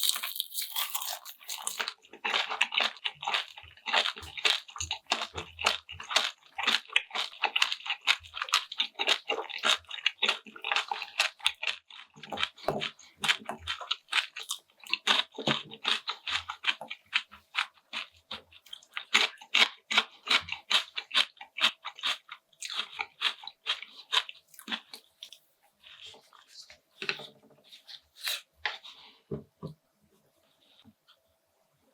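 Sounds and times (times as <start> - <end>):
crunchy food chewing: 0.0 - 28.9.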